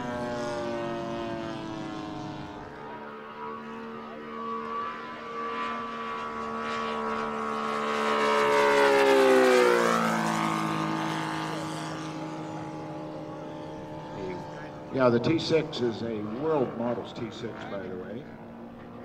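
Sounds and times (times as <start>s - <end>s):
model plane engine flying past: 0.0s - 19.0s.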